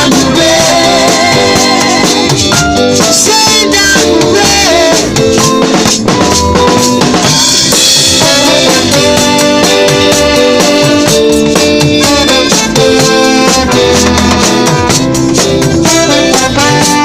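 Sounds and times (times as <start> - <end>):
reggae band playing: 0.0 - 17.0
snare and bass drum: 0.0 - 17.0.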